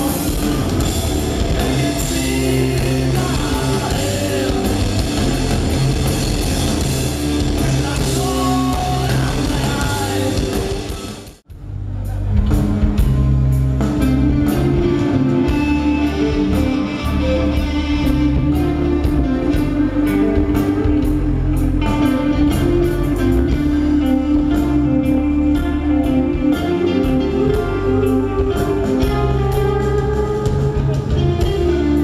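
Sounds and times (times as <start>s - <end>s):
live heavy rock band: 0.0s - 32.0s.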